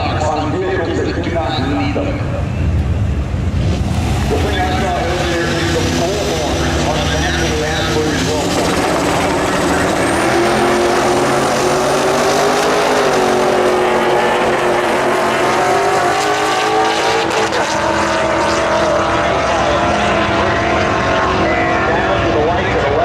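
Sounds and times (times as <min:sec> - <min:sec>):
engine at full throttle: 0:00.0 - 0:23.0.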